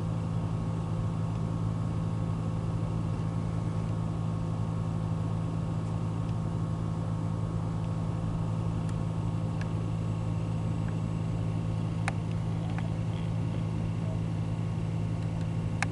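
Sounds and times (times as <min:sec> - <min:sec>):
vehicle engine idling: 0:00.0 - 0:15.9.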